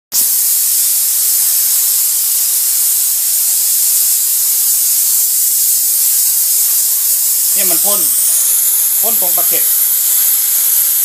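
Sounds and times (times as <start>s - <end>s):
steam cleaner hissing: 0.1s - 11.0s.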